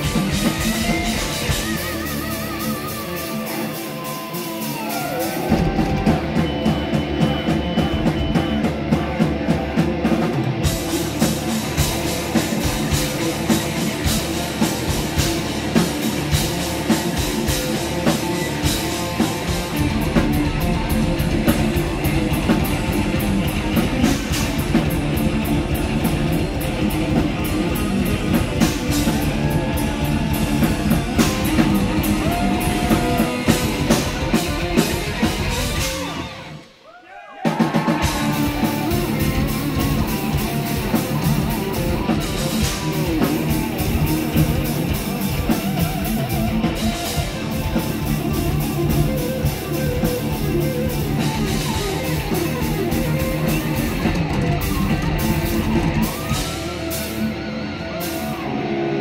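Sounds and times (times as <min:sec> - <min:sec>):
drum kit: 0:00.0 - 0:36.8, 0:37.4 - 0:59.0
lead electric guitar: 0:00.0 - 0:36.8, 0:37.8 - 0:59.0
metal band playing: 0:00.0 - 0:36.8, 0:37.4 - 0:59.0.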